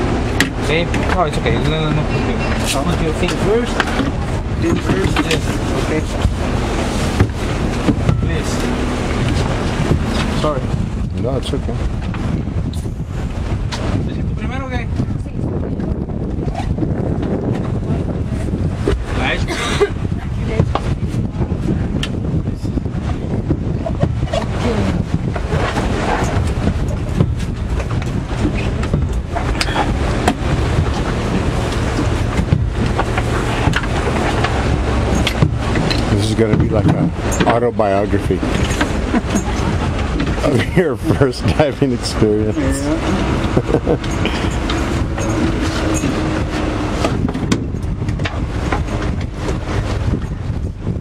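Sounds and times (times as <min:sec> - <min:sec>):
boat engine humming: 0:00.0 - 0:51.0
wind buffeting microphone: 0:00.0 - 0:51.0.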